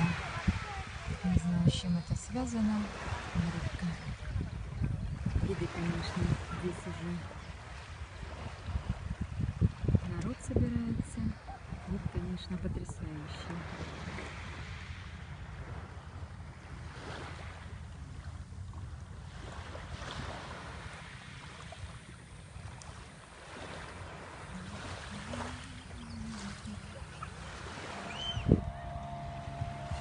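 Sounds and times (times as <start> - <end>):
small waves washing on shore: 0.0 - 30.0
wind rumbling on microphone: 0.0 - 30.0.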